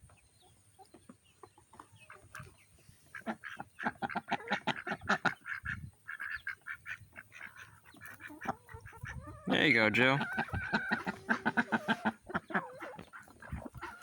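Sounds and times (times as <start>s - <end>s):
ducks quacking: 1.5s - 14.0s.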